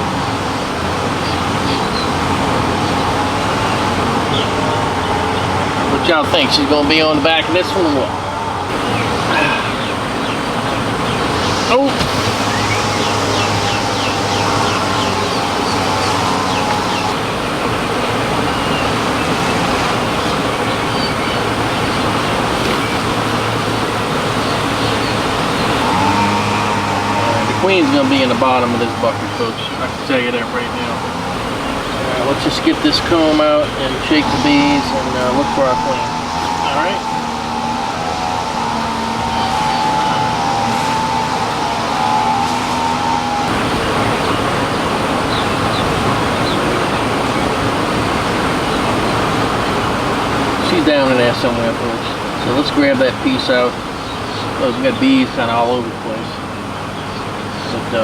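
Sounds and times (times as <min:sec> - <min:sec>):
low hum: 0:00.0 - 0:50.6
honeybees buzzing: 0:00.0 - 0:58.0.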